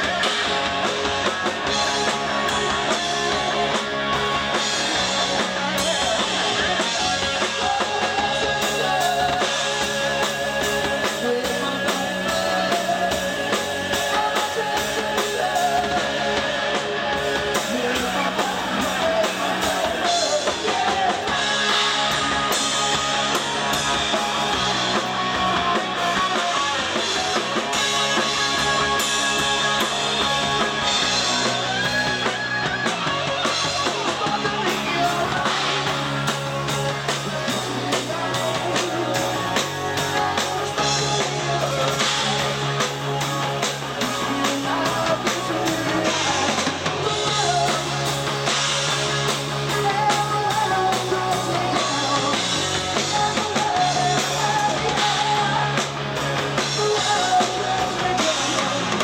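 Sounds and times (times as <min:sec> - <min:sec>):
bass guitar: 0:00.0 - 0:59.0
drum kit: 0:00.0 - 0:59.0
electric guitar: 0:00.0 - 0:59.0
person singing: 0:00.0 - 0:59.0.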